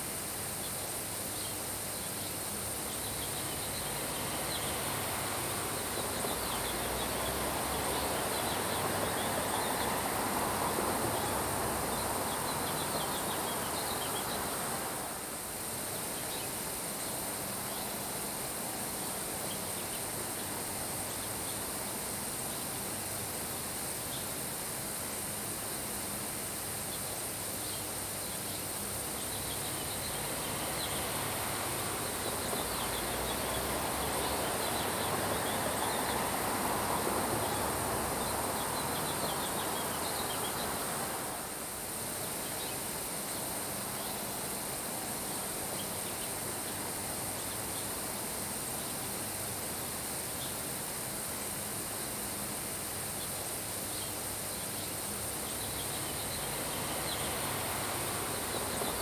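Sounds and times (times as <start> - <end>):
wind: 0.0 - 59.0
rain falling on grass: 2.1 - 24.6, 26.0 - 48.7, 55.2 - 59.0.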